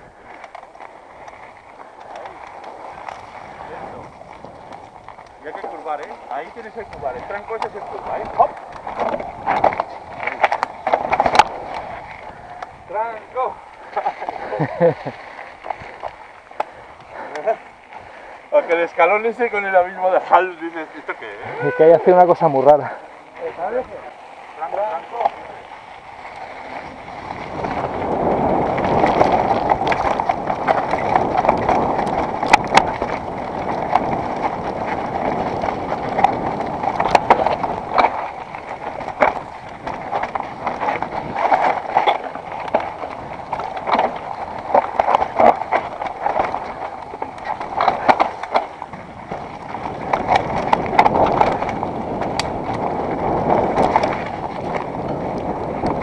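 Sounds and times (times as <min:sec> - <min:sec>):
bike rattling and clacking: 0:00.0 - 0:56.0.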